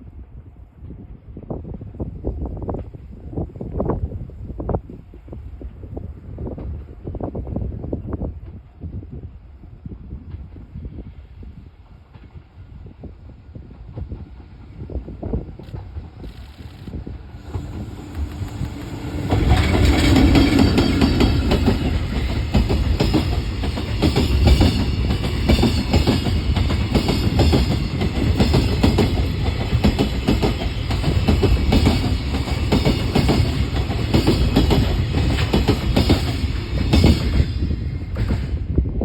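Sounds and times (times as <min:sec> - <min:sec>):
freight train passing: 0:00.0 - 0:39.0.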